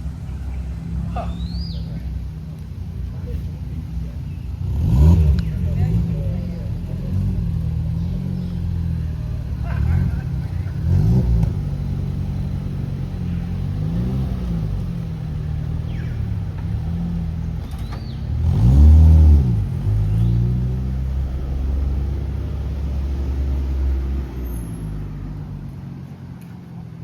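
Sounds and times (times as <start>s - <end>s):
car engine revving: 0.0s - 26.8s.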